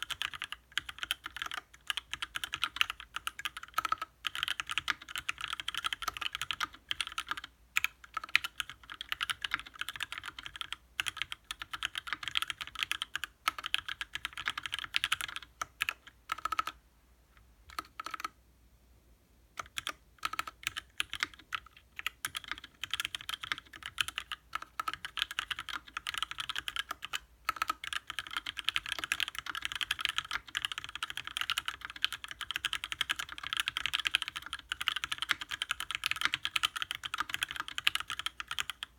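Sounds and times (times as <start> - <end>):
mechanical keyboard typing: 0.0 - 16.8, 17.7 - 18.4, 19.6 - 38.9.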